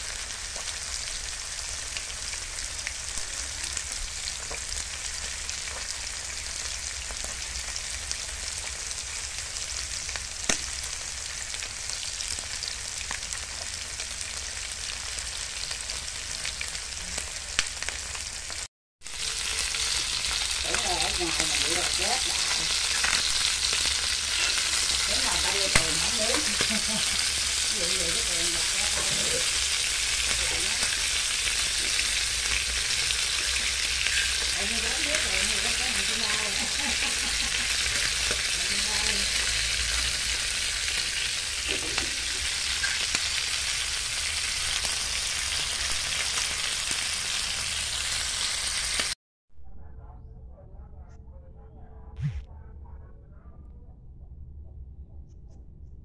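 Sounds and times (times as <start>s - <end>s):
meat sizzling in hot oil: 0.0s - 49.2s.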